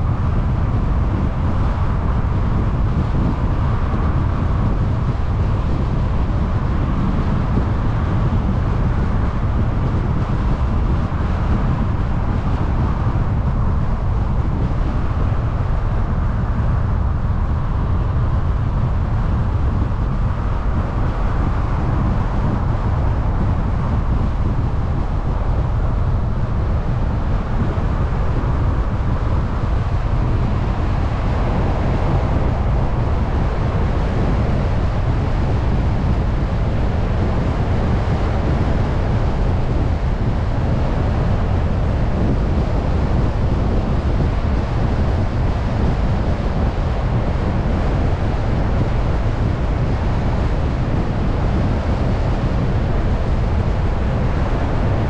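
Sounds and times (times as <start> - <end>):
car tyre and road noise: 0.0 - 55.0
wind buffeting microphone: 0.0 - 55.0.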